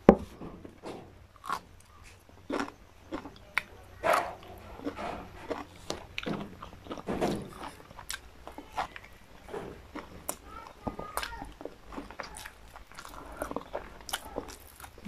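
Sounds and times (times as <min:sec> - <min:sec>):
person crunching and chewing: 0:01.3 - 0:15.0.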